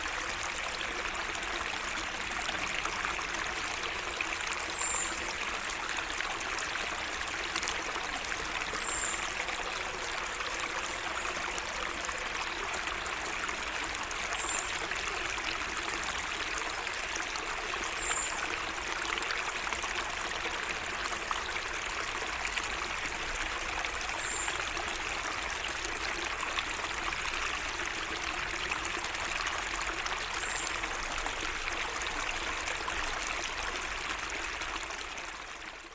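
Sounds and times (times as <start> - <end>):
water trickling: 0.0 - 35.9.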